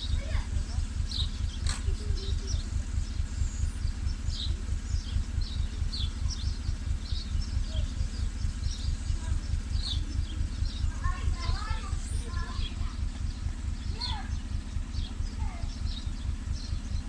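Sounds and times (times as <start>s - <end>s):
birds chirping: 0.0s - 17.0s
engine idling with pulsing rumble: 0.0s - 17.0s.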